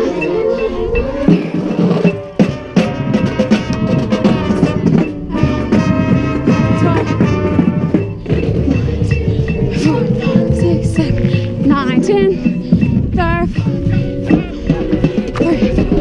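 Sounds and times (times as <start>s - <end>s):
brass chords: 0.0s - 16.0s
drumline hits: 1.0s - 16.0s.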